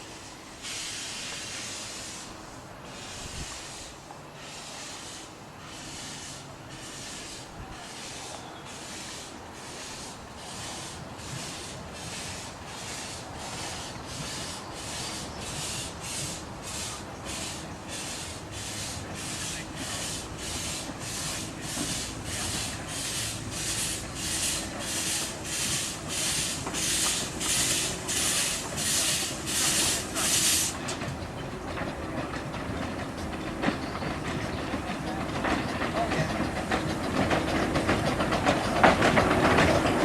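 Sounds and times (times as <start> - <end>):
steam locomotive chuffing: 0.0 - 40.0.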